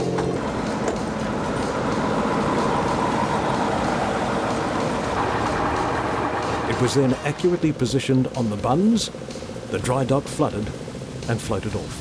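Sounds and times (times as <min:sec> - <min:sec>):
rushing machine noise: 0:00.0 - 0:11.3
heavy machinery engine hum: 0:00.0 - 0:11.4.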